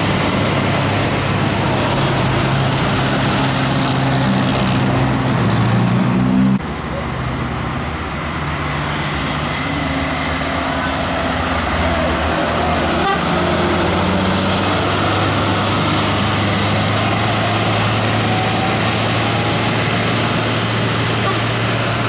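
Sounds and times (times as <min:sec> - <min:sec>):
bus diesel engine under load: 0:00.0 - 0:22.0.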